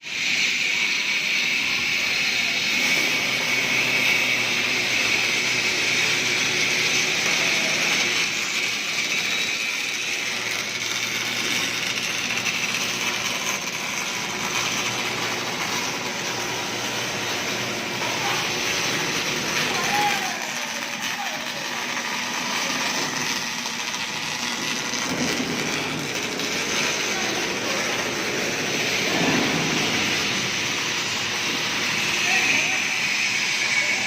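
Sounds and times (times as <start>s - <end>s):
welding machine hissing: 0.0s - 34.0s.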